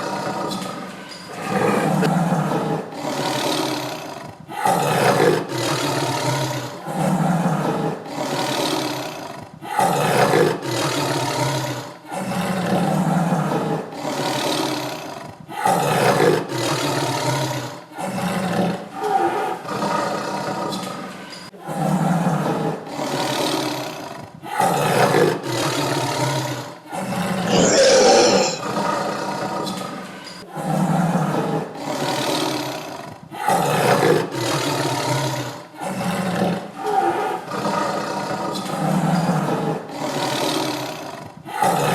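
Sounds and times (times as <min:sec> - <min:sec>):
tiger roaring and growling: 0:00.0 - 0:41.9.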